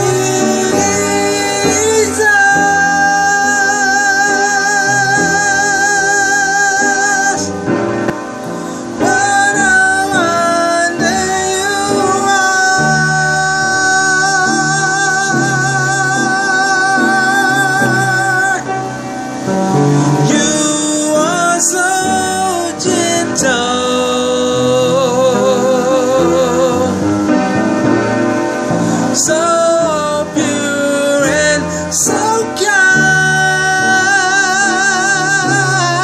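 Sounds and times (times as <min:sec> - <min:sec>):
instrumental backing music: 0:00.0 - 0:36.0
person singing worship song: 0:00.0 - 0:36.0.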